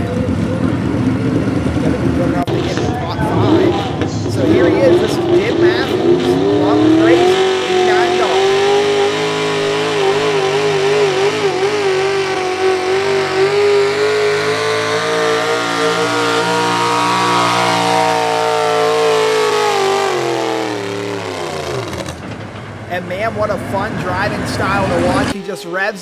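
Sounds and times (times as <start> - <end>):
truck engine revving hard: 0.0 - 25.4.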